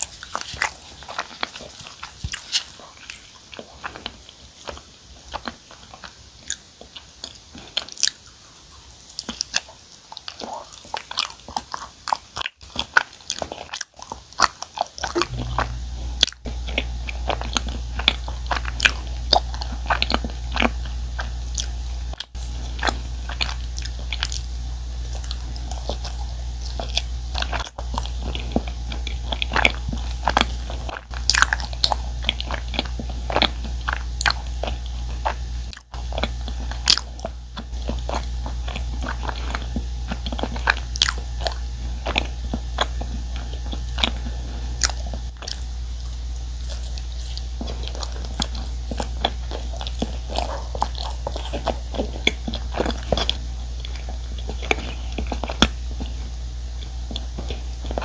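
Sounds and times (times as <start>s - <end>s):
close chewing with mouth smacks: 0.0s - 58.0s
low steady hum: 0.0s - 58.0s.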